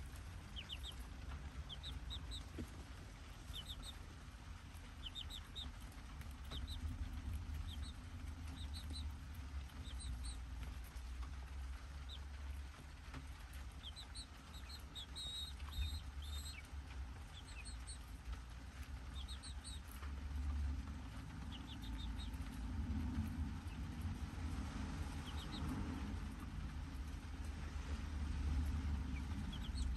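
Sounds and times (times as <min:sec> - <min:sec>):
chicks peeping: 0:00.0 - 0:29.9
low rumble: 0:00.0 - 0:29.9.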